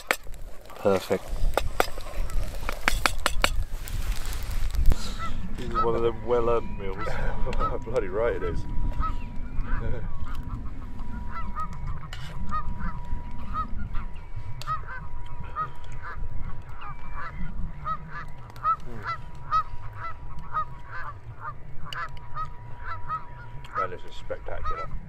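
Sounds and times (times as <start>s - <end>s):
geese honking: 0.0s - 25.0s
low rumble: 3.6s - 25.0s.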